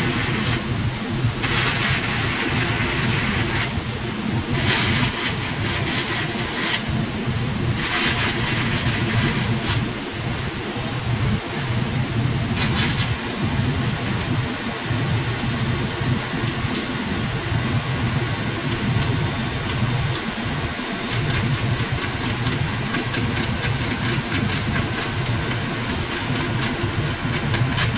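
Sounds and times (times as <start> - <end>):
hissing crackling welding arc: 0.0 - 9.9, 12.4 - 27.9
low machine hum: 0.0 - 27.9.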